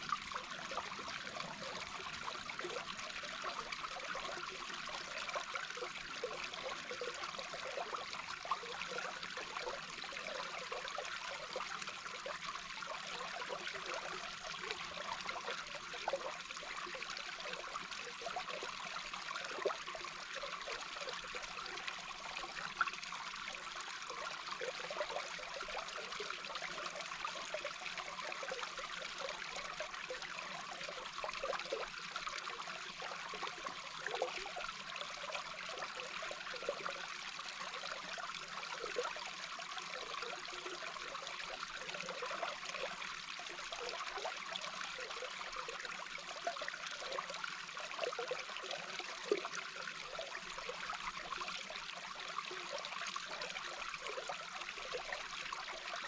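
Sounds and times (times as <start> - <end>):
underwater flowing water: 0.0 - 56.0.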